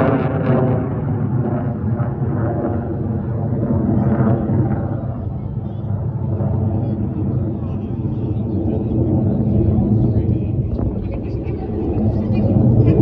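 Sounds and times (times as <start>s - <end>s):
fighter jet rumble: 0.0s - 13.0s.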